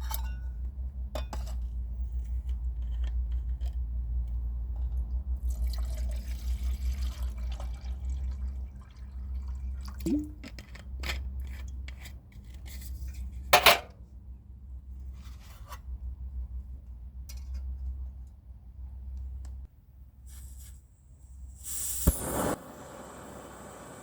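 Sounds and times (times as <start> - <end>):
low steady rumble: 0.0 - 20.2.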